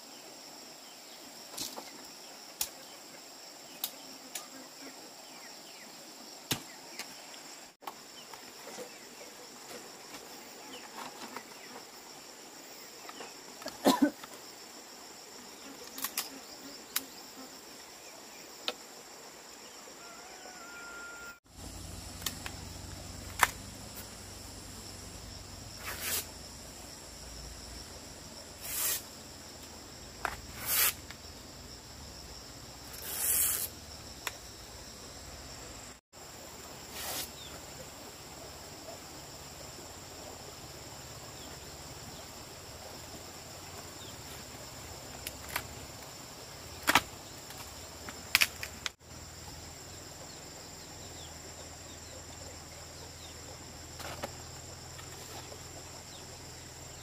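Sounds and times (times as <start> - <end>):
high drone of insects: 0.0 - 57.0.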